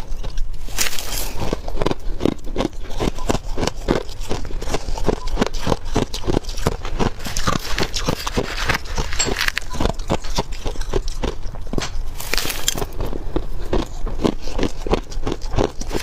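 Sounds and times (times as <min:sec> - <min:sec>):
frost being chewed: 0:00.0 - 0:16.0.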